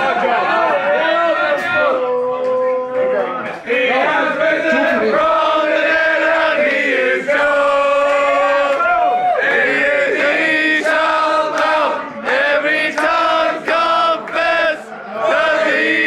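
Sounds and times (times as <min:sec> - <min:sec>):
men singing a chant: 0:00.2 - 0:08.8, 0:09.5 - 0:16.0.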